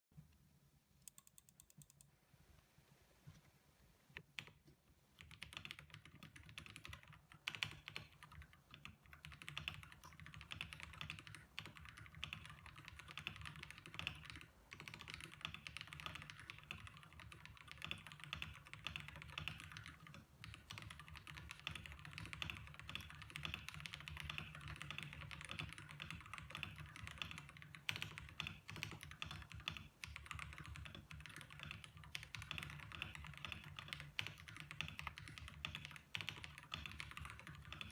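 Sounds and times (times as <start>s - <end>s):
mechanical keyboard typing: 1.0s - 2.1s, 5.2s - 37.9s.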